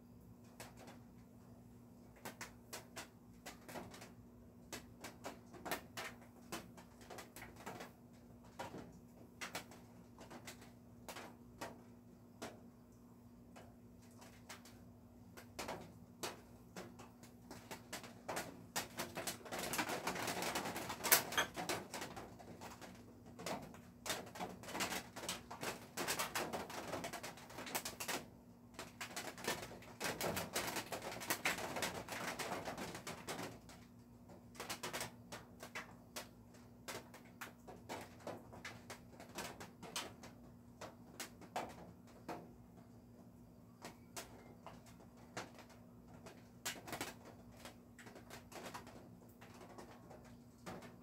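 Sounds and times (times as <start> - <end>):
faint steady hum: 0.0 - 51.0
rain on a roof: 0.3 - 51.0.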